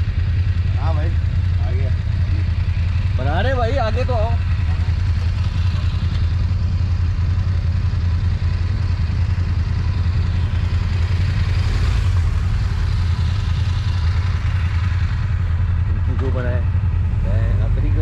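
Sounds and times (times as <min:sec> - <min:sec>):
motorcycle engines rumbling: 0:00.0 - 0:18.0
road and wind noise: 0:00.0 - 0:18.0.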